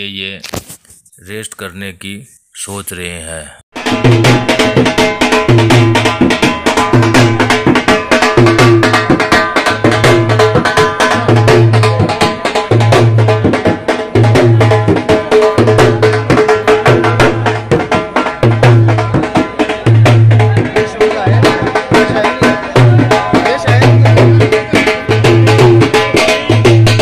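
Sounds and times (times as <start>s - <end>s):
drum beaten fast with sticks: 3.8s - 27.0s.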